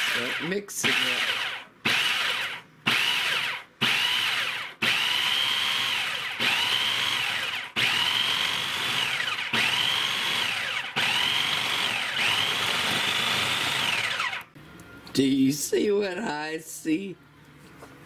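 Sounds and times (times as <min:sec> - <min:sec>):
food processor motor pulsing: 0:00.0 - 0:14.5.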